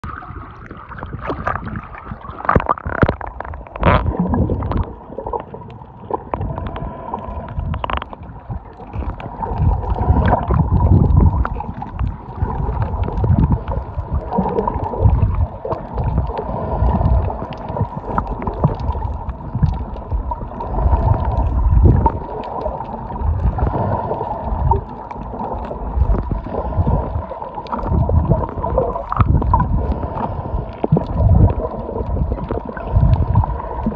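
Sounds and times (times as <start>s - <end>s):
underwater water sloshing: 0.0s - 33.9s
water splashes: 0.0s - 33.9s.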